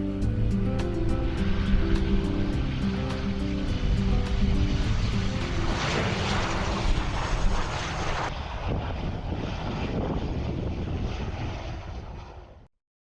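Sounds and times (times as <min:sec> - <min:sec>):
airliner engine roar: 0:00.0 - 0:12.7.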